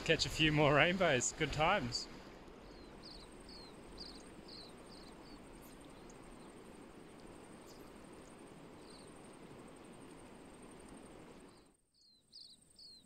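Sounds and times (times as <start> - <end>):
river running over stones: 0.0 - 11.6.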